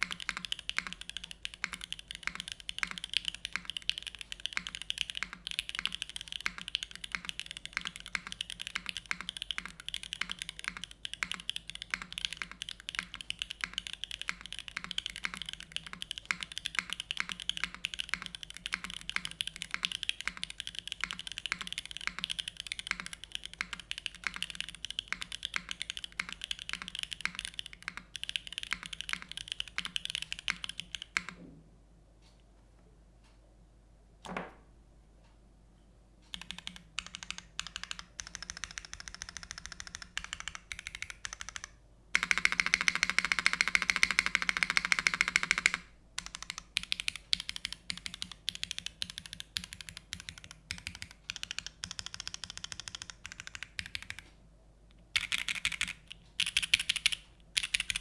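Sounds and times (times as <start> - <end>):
fast typing on mechanical keyboard: 0.0 - 31.4, 36.3 - 54.2, 55.1 - 58.0.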